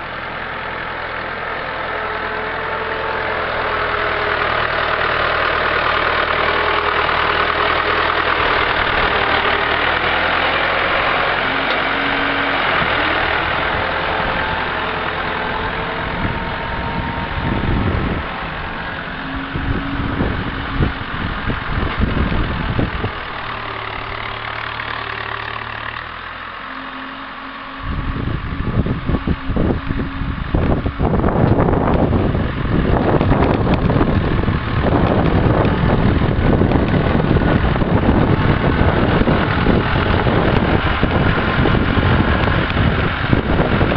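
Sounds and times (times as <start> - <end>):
tractor engine running: 0.0 - 43.9
wind buffeting microphone: 2.3 - 26.1, 27.8 - 43.9.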